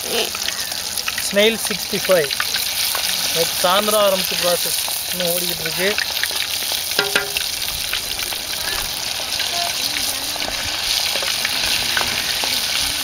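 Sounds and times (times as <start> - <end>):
food sizzling in hot oil: 0.0 - 13.0
ladle stirring in oil: 0.3 - 13.0.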